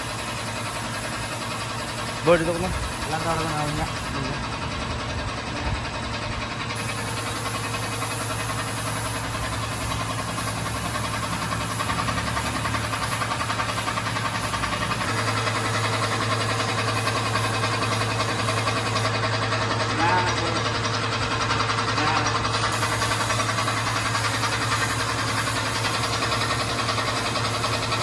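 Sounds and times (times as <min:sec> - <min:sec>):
machine motor humming: 0:00.0 - 0:05.9, 0:06.7 - 0:28.0.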